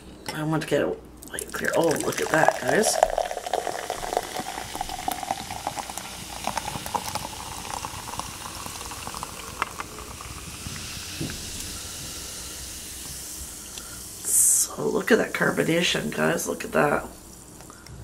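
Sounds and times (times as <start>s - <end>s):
fizzing bubbles hiss: 1.2s - 17.9s
soda pouring into glass: 1.3s - 17.8s.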